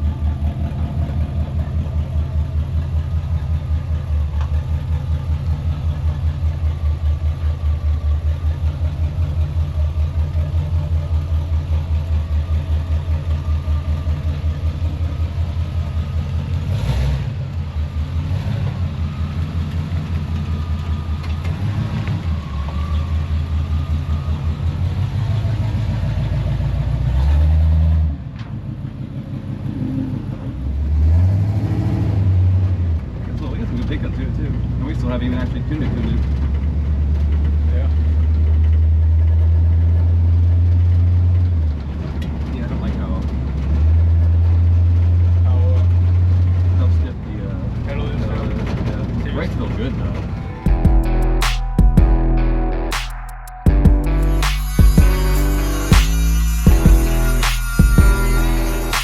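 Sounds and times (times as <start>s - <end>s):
truck engine idling: 0.0s - 27.2s, 32.8s - 59.0s.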